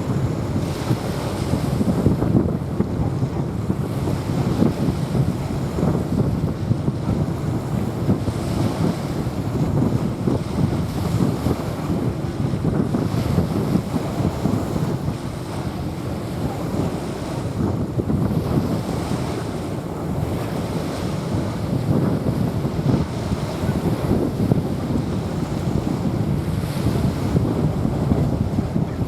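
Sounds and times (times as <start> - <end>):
small waves washing onto sand: 0.0 - 29.0
wind buffeting microphone: 0.0 - 29.0.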